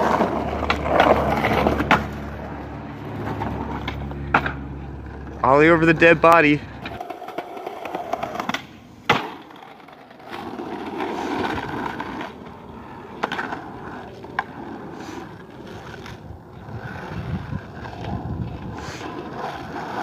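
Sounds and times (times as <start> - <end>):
skateboard clacking on ground: 0.0 - 20.0
skateboard wheels rolling on asphalt: 0.0 - 20.0.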